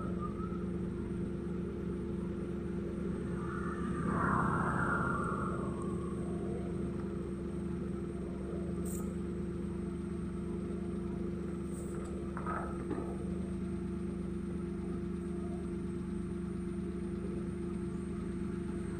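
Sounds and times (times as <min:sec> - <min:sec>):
engine idling hum: 0:00.0 - 0:18.9.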